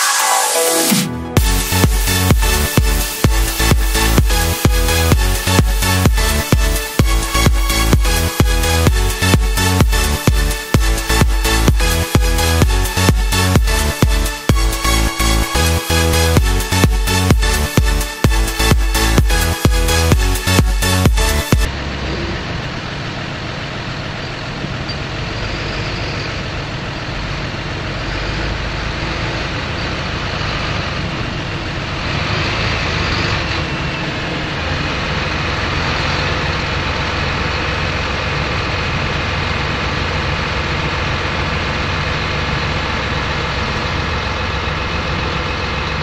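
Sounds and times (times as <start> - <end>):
tractor diesel engines running: 0.0 - 46.0.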